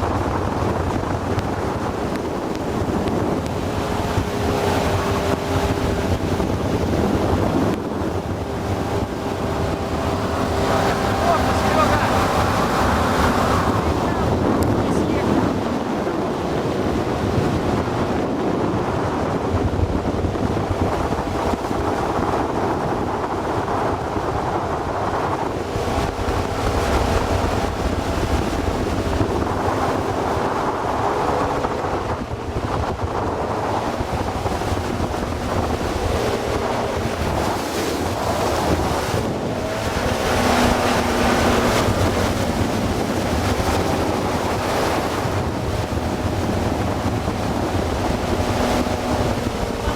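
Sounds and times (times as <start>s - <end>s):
motorboat motor running: 0.0s - 49.9s
water splashing along hull: 0.0s - 49.9s
wind buffeting microphone: 0.0s - 49.9s.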